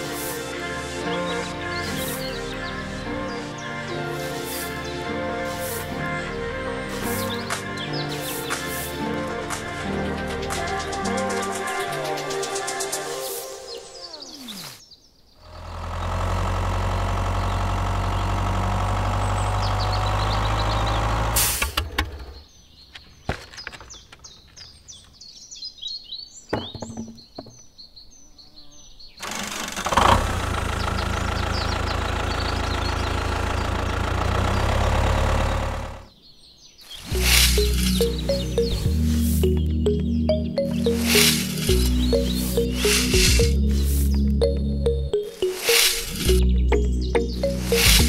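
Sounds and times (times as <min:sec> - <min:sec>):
engine hum: 0:00.0 - 0:12.2, 0:13.9 - 0:22.5, 0:29.2 - 0:36.2, 0:36.9 - 0:48.0
birds chirping: 0:00.0 - 0:15.8, 0:17.2 - 0:48.0.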